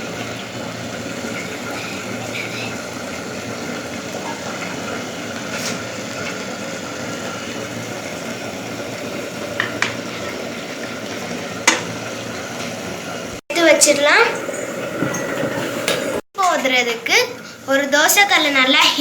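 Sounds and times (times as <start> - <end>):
pot hissing on stove: 0.0 - 16.2.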